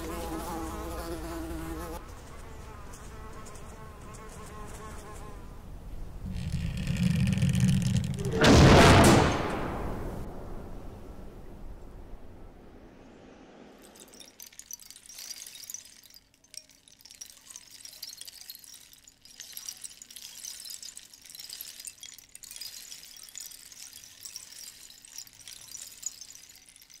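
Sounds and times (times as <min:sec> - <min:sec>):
high crackling hiss: 0:00.0 - 0:08.3, 0:10.3 - 0:27.0.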